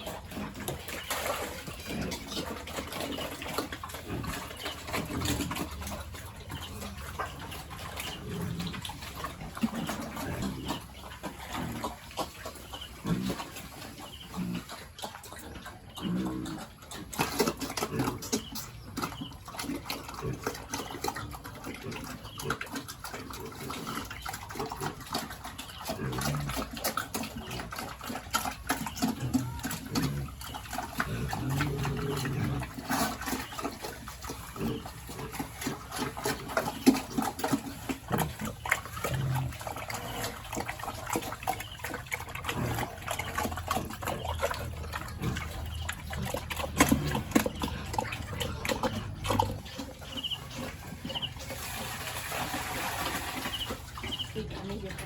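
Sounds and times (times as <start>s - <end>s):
pigs grunting: 0.0s - 55.0s.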